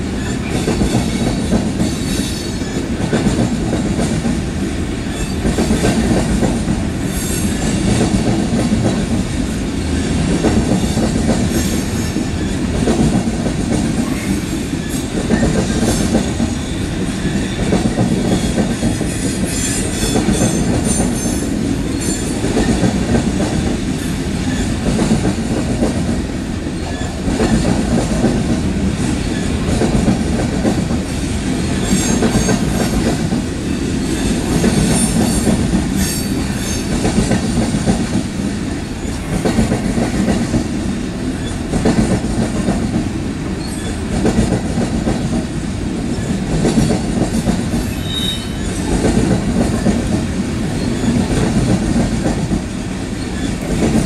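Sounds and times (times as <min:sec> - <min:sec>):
train cars rumbling past: 0:00.0 - 0:54.0.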